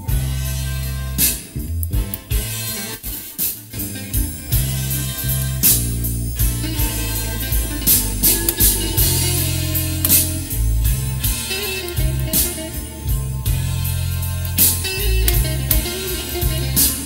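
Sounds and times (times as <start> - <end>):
music with guitar bass and drums: 0.0 - 17.0.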